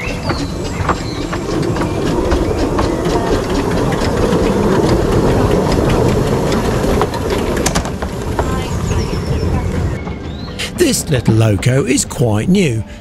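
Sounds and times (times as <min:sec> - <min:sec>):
steam locomotive passing: 0:00.0 - 0:13.0
wheels clicking on rails: 0:00.0 - 0:13.0.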